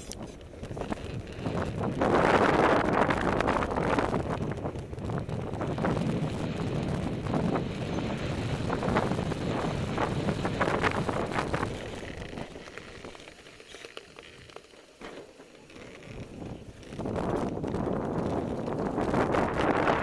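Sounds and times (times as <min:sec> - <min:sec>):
wind buffeting microphone: 0:00.0 - 0:13.7, 0:15.6 - 0:20.0
wheels rolling over wet sand: 0:00.0 - 0:20.0.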